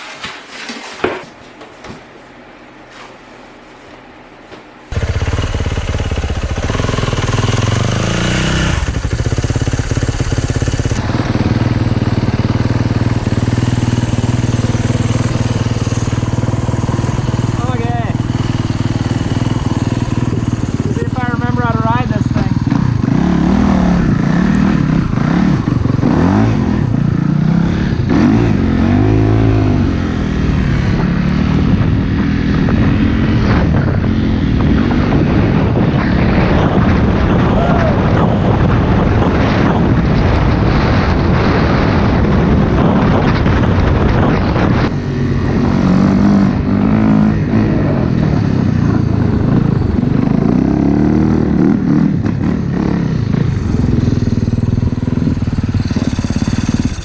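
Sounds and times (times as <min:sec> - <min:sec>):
steady rushing noise: 0:04.8 - 0:57.0
dirt bike engine revving: 0:04.9 - 0:37.5, 0:38.1 - 0:57.0.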